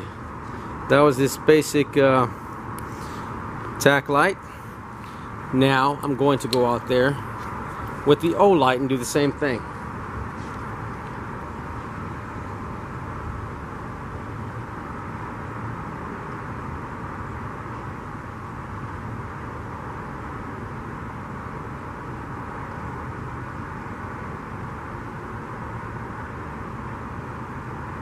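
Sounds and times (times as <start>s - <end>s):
outdoor background hum: 0.0s - 28.0s.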